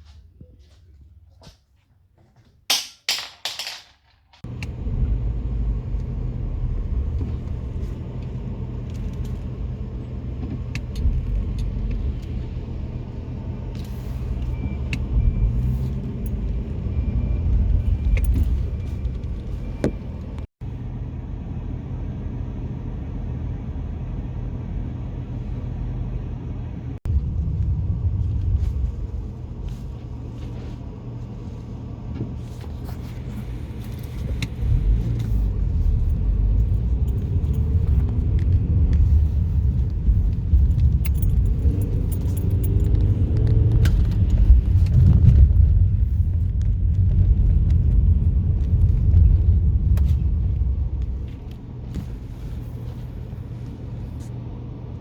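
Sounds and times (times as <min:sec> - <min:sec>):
low vehicle rumble: 0:04.4 - 0:55.0.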